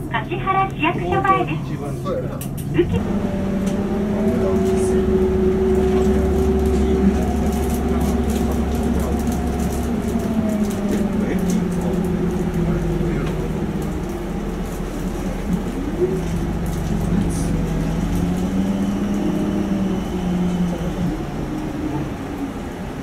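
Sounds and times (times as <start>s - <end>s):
bus diesel engine running: 0.0s - 23.0s
low hum: 0.0s - 23.0s.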